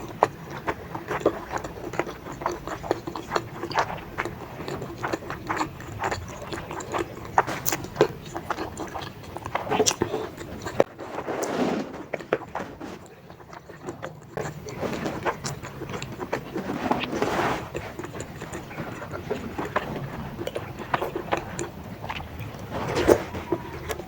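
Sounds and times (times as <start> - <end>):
wet chewing mouth noises: 0.0 - 24.0.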